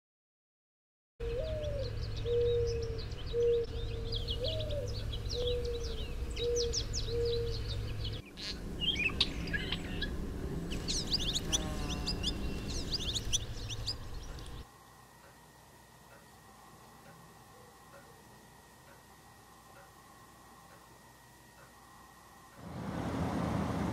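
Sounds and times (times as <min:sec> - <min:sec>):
songbirds singing and chirping: 0:01.2 - 0:21.9.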